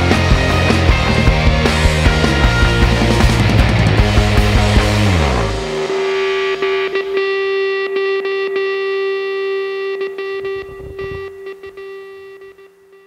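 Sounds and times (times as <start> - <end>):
distorted electric guitar note: 0.0 - 13.0.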